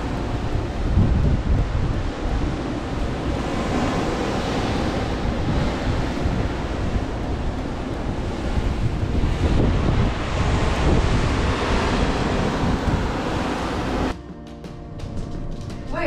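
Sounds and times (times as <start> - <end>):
open sea rushing: 0.0 - 14.2
wind buffeting microphone: 0.0 - 14.2.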